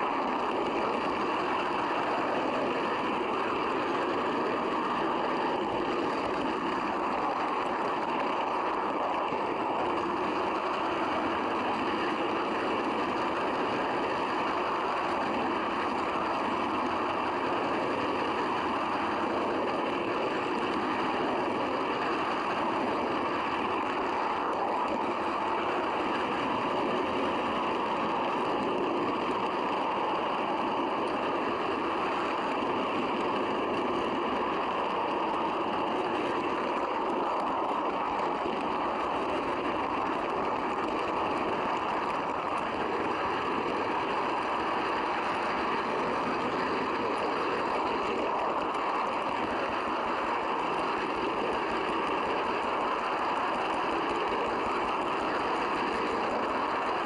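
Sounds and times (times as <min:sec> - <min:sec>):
model train rumbling on track: 0:00.0 - 0:57.0.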